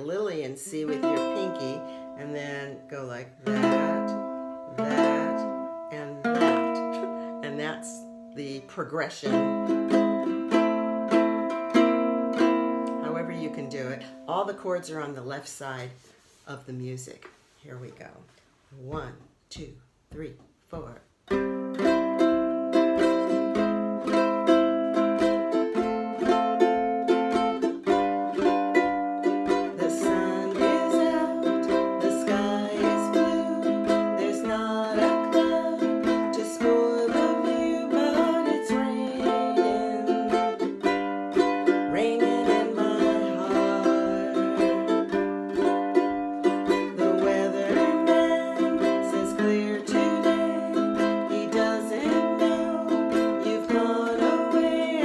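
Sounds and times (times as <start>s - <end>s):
ukulele strumming chords: 0.0s - 15.1s, 18.9s - 55.0s.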